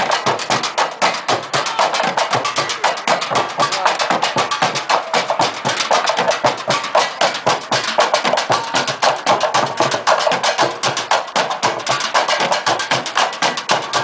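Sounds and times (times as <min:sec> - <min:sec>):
drumming on plastic barrels: 0:00.0 - 0:14.0.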